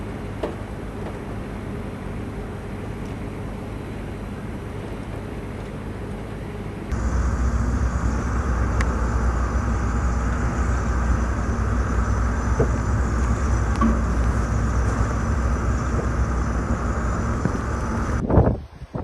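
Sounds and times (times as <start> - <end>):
vehicle driving rumble: 0.0 - 18.2.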